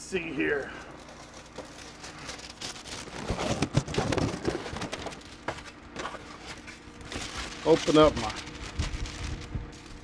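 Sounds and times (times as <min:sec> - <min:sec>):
paper rustling and crinkling: 0:00.7 - 0:10.0.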